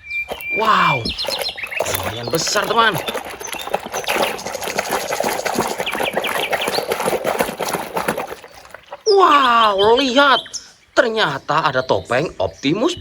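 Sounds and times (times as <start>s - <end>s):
water splashing and scrubbing: 0.0s - 10.6s
faint birds chirping: 0.0s - 13.0s.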